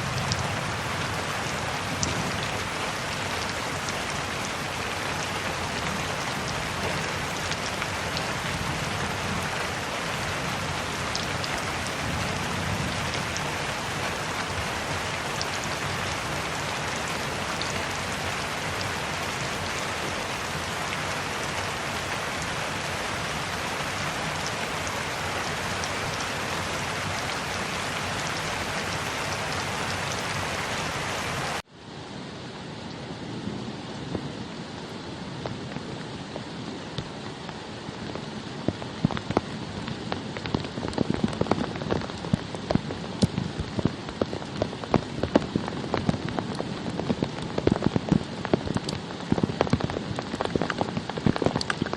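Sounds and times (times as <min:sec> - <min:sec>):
heavy rain: 0:00.0 - 0:51.9.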